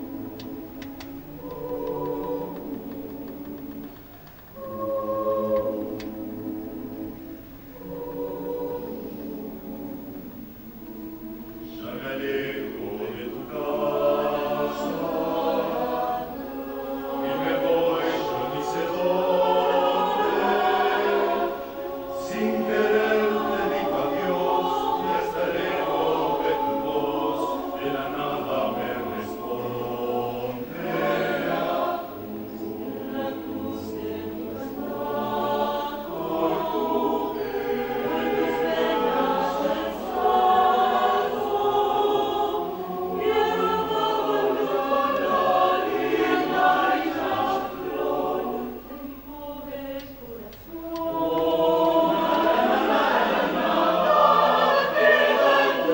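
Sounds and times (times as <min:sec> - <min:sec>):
mixed choir singing: 0:00.0 - 0:55.9.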